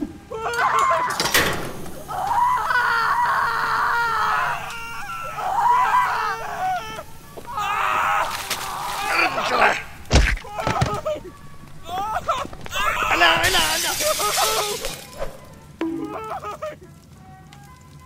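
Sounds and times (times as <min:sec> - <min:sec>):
voices screaming: 0:00.0 - 0:17.0.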